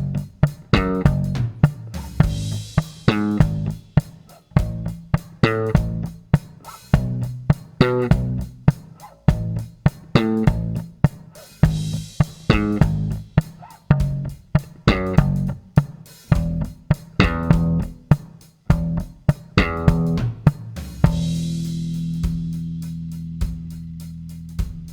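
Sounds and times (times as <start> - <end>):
plucked electric bass: 0.0 - 3.9, 4.6 - 6.2, 6.9 - 8.7, 9.3 - 10.9, 11.6 - 15.6, 16.3 - 18.1, 18.7 - 24.9
drum beat: 0.0 - 24.9.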